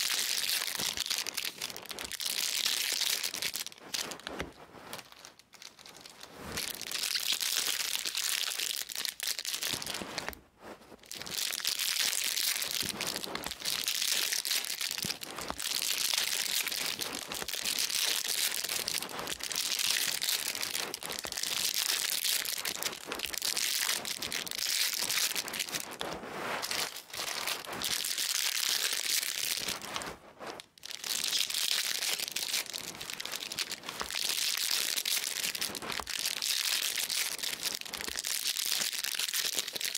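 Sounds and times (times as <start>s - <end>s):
foil wrappers crinkling and tearing: 0.0s - 4.3s, 4.9s - 10.3s, 11.1s - 26.0s, 26.6s - 30.0s, 30.8s - 39.9s.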